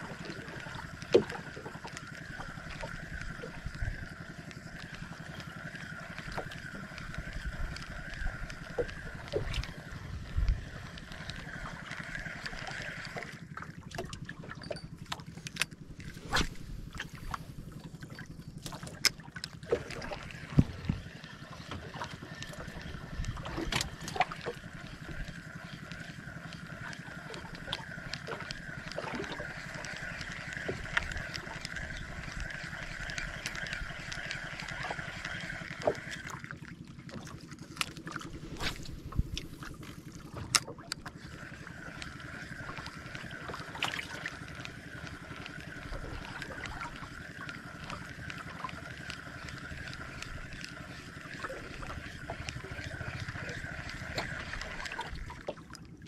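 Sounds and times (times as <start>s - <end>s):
fishing reel whirring: 0.0s - 36.6s, 37.2s - 56.0s
water rumbling against boat: 0.0s - 56.0s.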